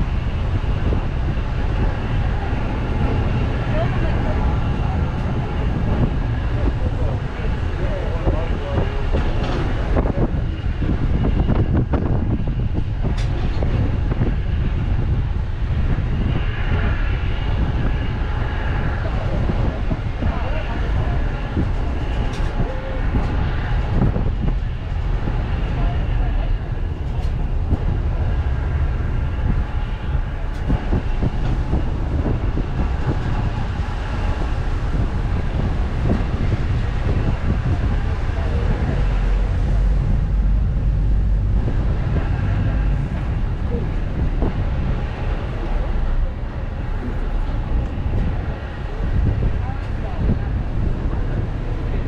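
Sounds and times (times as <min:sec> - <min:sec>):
ferry engines rumbling: 0:00.0 - 0:52.0
wind on microphone: 0:00.0 - 0:52.0.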